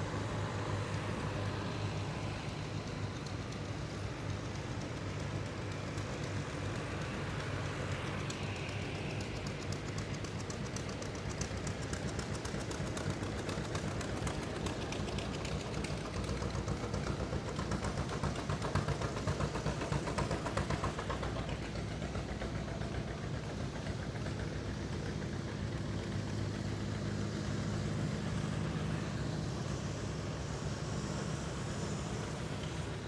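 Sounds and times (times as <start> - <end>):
tractor engines driving past: 0.0 - 33.0.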